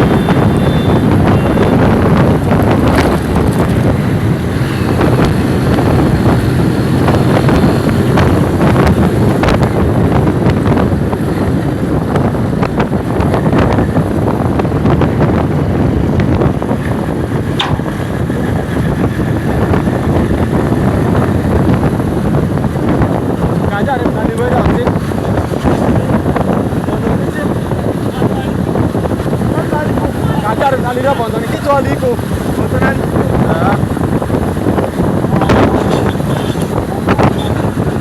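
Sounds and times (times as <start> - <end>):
loud low rumbling noise: 0.0 - 38.0.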